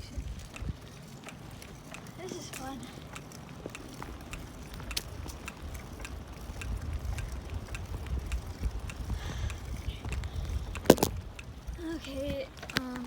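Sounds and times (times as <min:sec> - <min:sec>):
bicycle clicks and rattles: 0:00.0 - 0:13.0
wind rumbling on microphone: 0:00.0 - 0:13.0.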